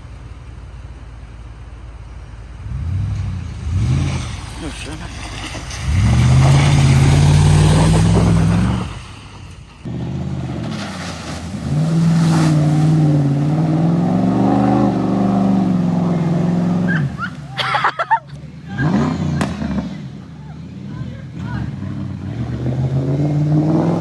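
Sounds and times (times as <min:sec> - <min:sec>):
pickup truck engine revving: 0:00.0 - 0:24.0.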